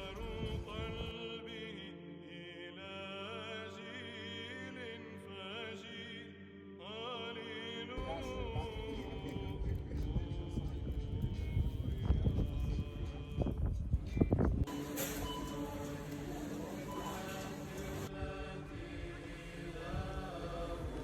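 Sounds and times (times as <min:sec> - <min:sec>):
slow sung chant: 0:00.0 - 0:21.0.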